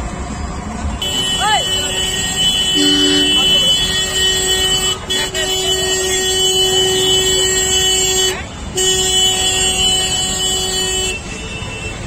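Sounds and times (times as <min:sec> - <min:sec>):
road traffic: 0:00.0 - 0:12.0
horn long blasts: 0:01.0 - 0:12.0.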